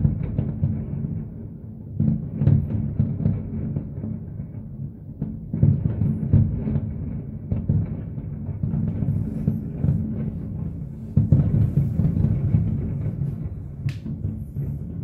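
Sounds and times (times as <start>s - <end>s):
distant fireworks booms: 0.0s - 15.0s.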